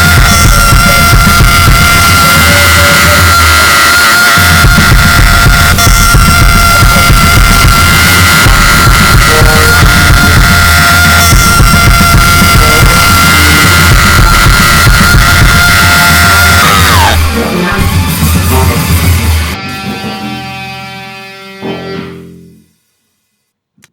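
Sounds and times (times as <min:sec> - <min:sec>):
steady high tone: 0:00.0 - 0:22.7
extreme metal music: 0:00.0 - 0:22.8.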